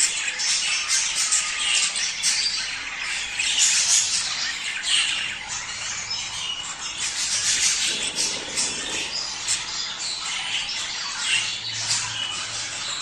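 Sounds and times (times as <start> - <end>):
budgerigars chattering: 0.2 - 13.0.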